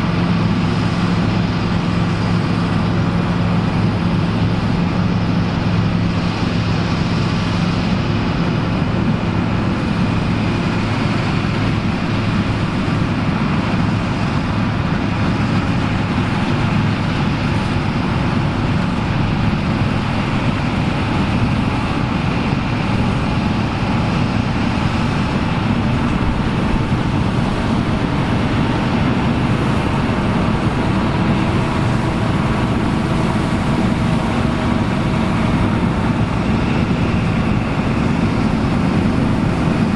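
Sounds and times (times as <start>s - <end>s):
farm machinery engine running: 0.0s - 39.9s.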